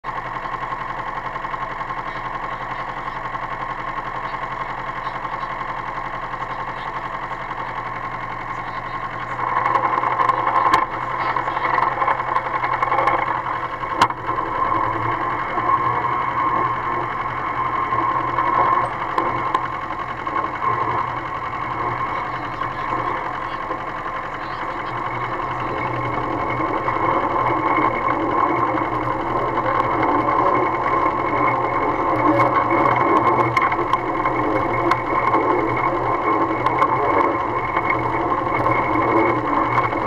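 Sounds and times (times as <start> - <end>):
rail truck engine running: 0.0 - 40.0.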